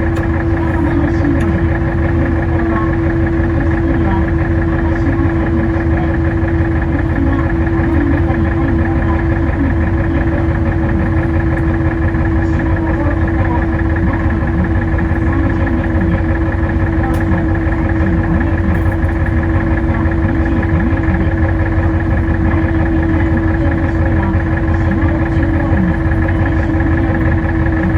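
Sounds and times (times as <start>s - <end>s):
boat engine humming: 0.0s - 27.9s.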